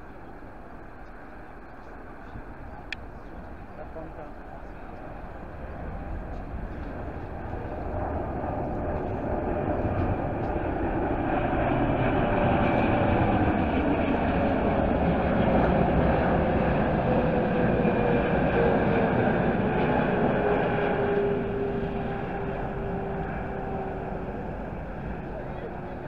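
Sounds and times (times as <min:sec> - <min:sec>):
jet engines of landing plane: 0:00.0 - 0:26.0.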